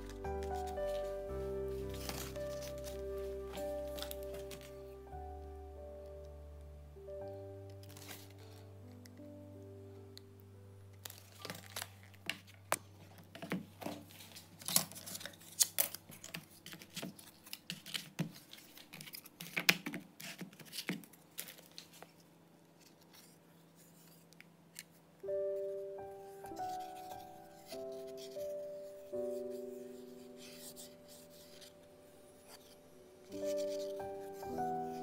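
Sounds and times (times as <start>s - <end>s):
hands rustling and scraping parts: 0.0s - 4.8s, 7.7s - 9.3s, 10.9s - 25.0s, 26.4s - 35.0s.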